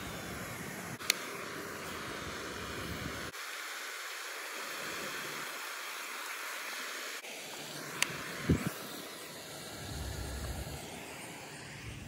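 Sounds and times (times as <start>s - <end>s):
fountain spray falling on water: 0.0s - 10.8s.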